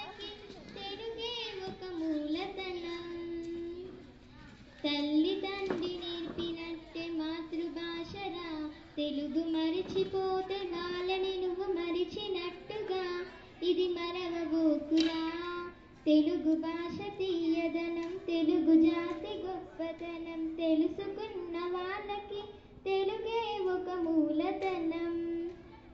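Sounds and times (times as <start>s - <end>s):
girl singing unaccompanied: 0.0s - 25.9s.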